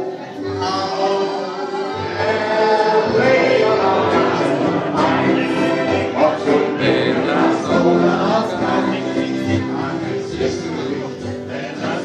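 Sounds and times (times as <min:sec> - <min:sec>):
group of people singing: 0:00.0 - 0:12.0.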